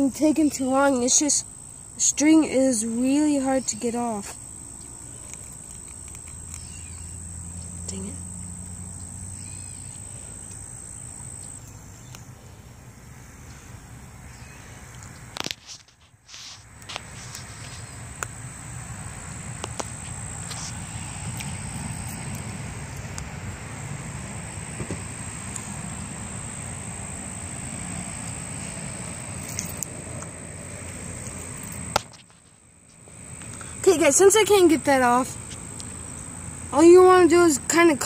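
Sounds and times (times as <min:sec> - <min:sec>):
insect drone: 0:00.0 - 0:38.0.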